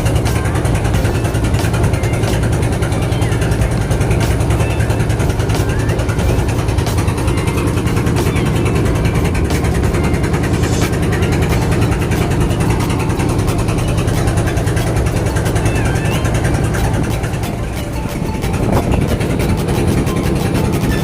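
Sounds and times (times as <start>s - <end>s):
road noise rushing: 0.0s - 21.0s
vehicle engine hum: 0.0s - 21.0s.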